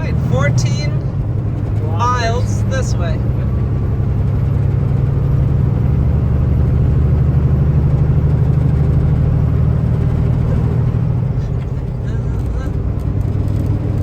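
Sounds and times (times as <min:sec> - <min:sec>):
diesel truck engine drone: 0:00.0 - 0:14.0
road noise: 0:00.0 - 0:14.0.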